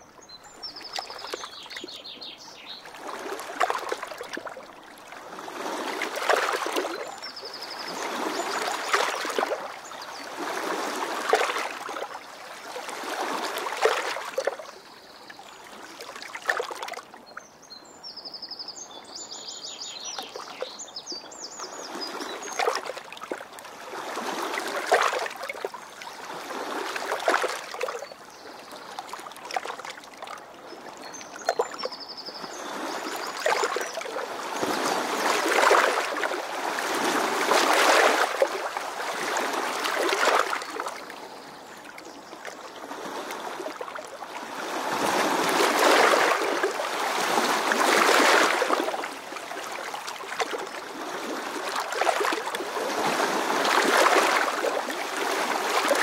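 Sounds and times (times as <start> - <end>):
river water rushing and lapping: 0.0 - 56.0.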